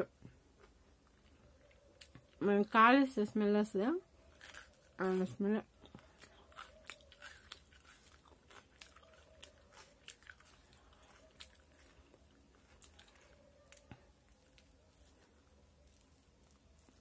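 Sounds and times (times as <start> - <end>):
soft crunching chewing: 0.0 - 2.4, 4.0 - 17.0.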